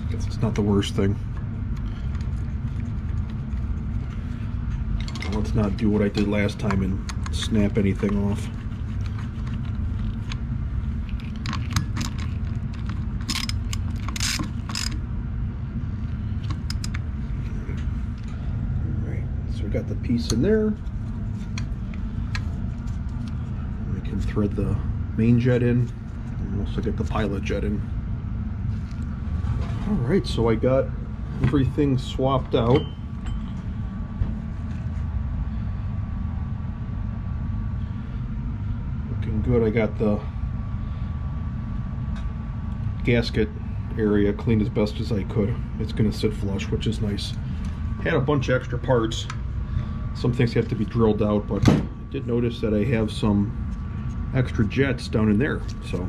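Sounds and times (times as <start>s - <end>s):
faint high whine: 0.0s - 56.0s
steady low hum: 0.0s - 56.0s.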